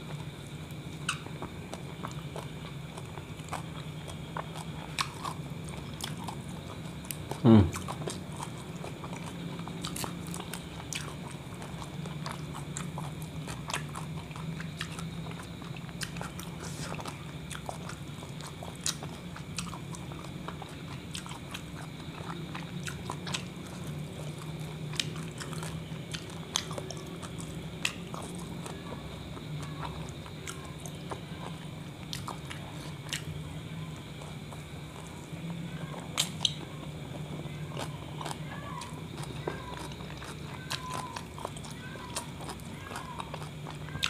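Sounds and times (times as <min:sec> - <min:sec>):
close chewing and biting: 0:00.0 - 0:44.0
steady low hum: 0:00.0 - 0:44.0.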